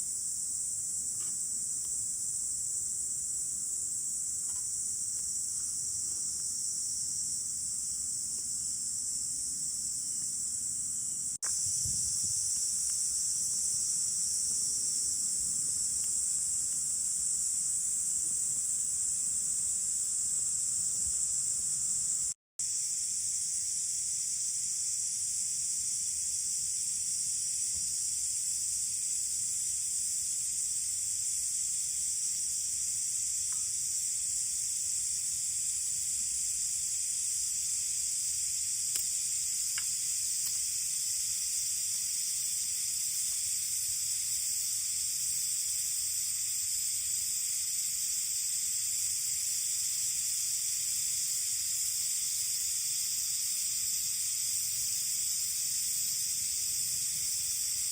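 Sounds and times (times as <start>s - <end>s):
insects shrilling: 0.0s - 57.9s.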